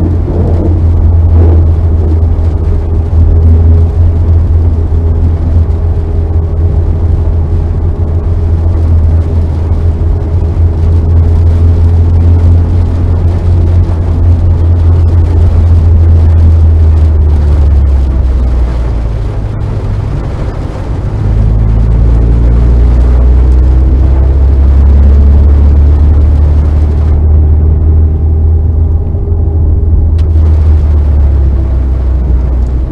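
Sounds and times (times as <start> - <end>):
car engine running hard: 0.0 - 32.9.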